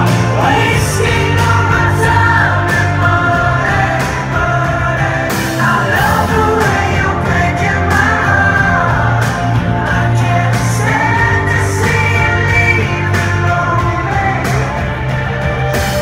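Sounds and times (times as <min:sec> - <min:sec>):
person singing into microphone: 0:00.0 - 0:15.1
drums: 0:00.0 - 0:16.0
keyboards: 0:00.0 - 0:16.0.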